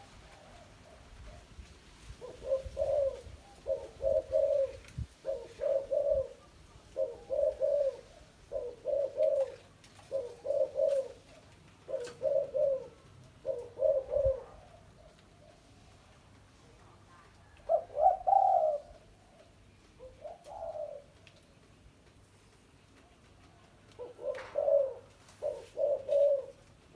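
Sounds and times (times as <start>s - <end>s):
dove cooing: 0.0s - 16.2s, 17.2s - 21.4s, 22.9s - 26.9s.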